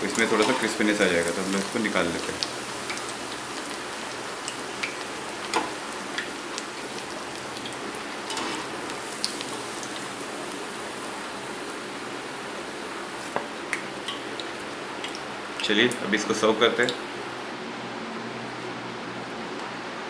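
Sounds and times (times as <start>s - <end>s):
food frying in hot oil: 0.0s - 17.3s.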